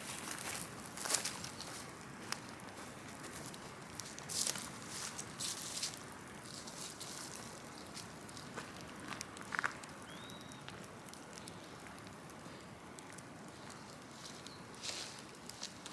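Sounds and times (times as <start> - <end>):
bonfire crackling: 0.0 - 15.9.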